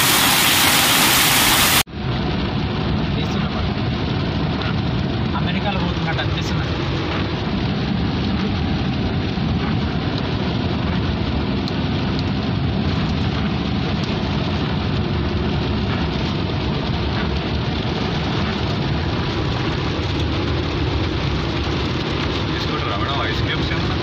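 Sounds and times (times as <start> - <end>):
hail and rain on car roof: 0.0 - 24.0.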